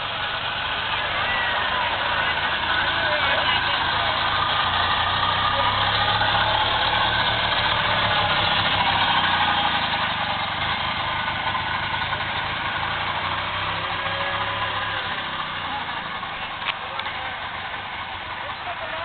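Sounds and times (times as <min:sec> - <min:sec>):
golf cart engines humming: 0:00.0 - 0:19.0.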